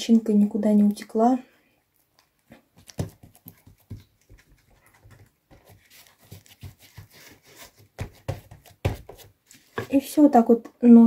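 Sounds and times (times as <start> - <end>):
sticky dough squishes: 0.2 - 10.1.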